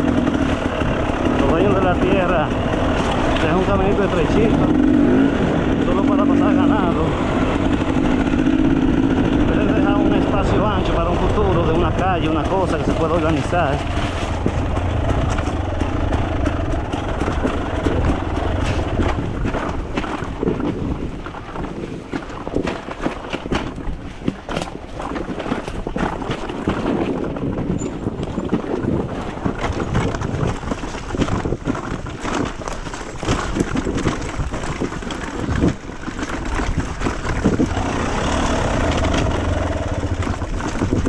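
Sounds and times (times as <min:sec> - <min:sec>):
knocks and rattles from bumps: 0:00.0 - 0:05.0, 0:10.6 - 0:41.0
dirt bike engine: 0:00.0 - 0:41.0
wind noise on microphone: 0:00.0 - 0:41.0.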